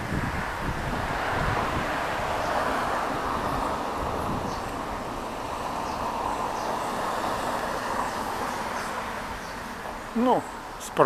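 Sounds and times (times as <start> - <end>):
rushing street noise: 0.0 - 11.0.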